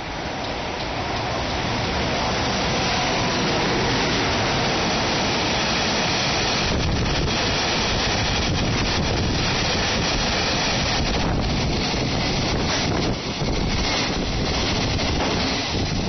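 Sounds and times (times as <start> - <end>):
train wheels rushing on rails: 0.0 - 16.0.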